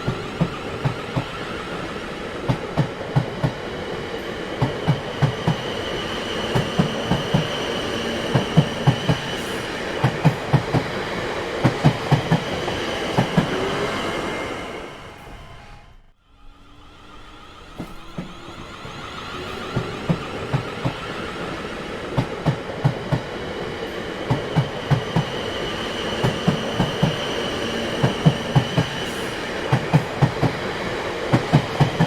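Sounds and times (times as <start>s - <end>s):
clickety-clack over rail joints: 0.0s - 13.9s, 17.7s - 32.0s
train wheels rumbling: 0.0s - 32.0s.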